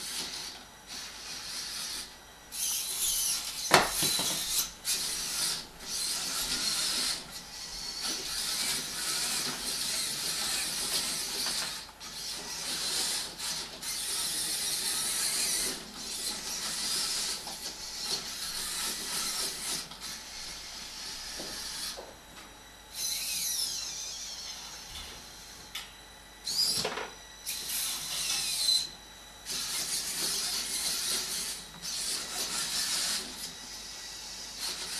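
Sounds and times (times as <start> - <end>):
robot motors whirring: 0.0 - 22.0, 22.9 - 25.6, 26.4 - 34.9.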